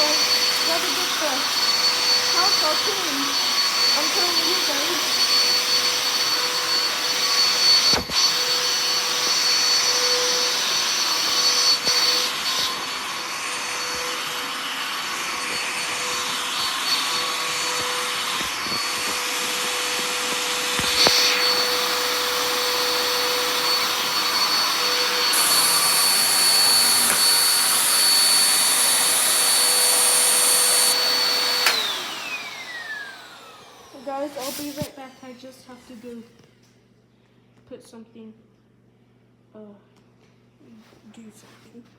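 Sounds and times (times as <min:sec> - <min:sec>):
vacuum cleaner running: 0:00.0 - 0:36.5.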